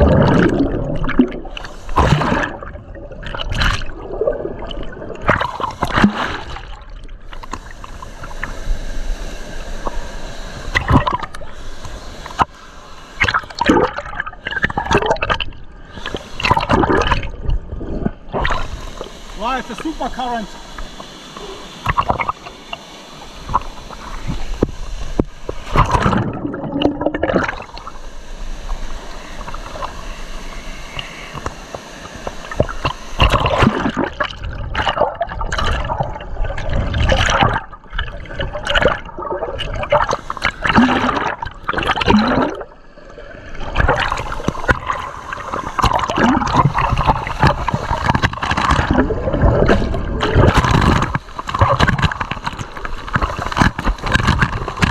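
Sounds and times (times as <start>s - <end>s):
river water gurgling and sloshing: 0.0s - 54.9s.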